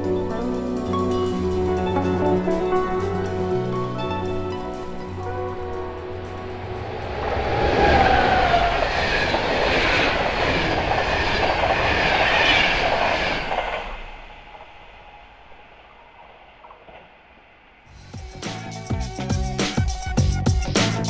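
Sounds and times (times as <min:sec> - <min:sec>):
train passing at speed: 0:00.0 - 0:18.8
high whine: 0:00.0 - 0:20.4.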